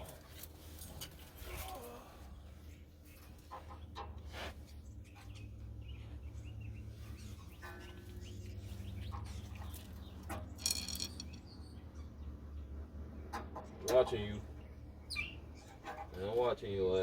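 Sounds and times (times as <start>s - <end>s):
birds chirping: 1.0s - 17.0s.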